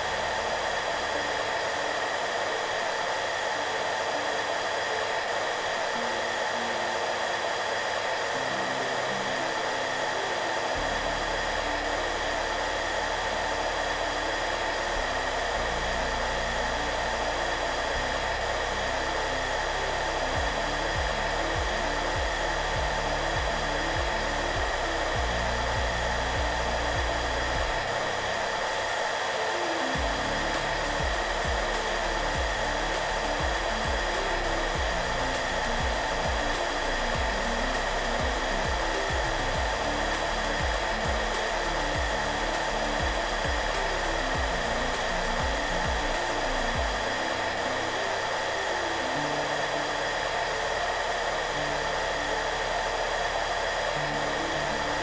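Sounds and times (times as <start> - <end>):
hair dryer running: 0.0 - 55.0
soft background music: 0.0 - 55.0.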